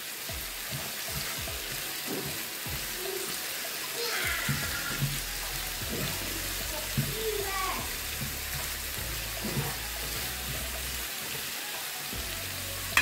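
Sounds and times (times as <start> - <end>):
food sizzling in a frying pan: 0.0 - 13.0
spatula stirring pan: 0.0 - 13.0.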